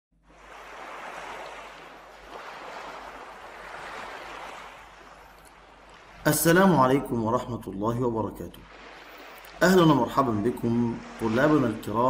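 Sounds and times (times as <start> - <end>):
sea waves washing in: 0.2 - 12.0.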